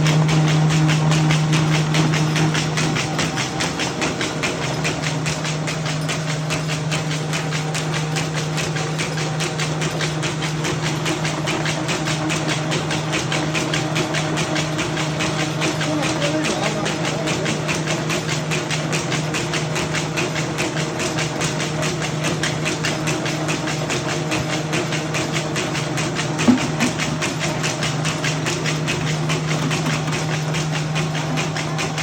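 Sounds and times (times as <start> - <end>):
machine humming: 0.0 - 18.5, 23.8 - 32.0
fast even clatter: 0.0 - 32.0.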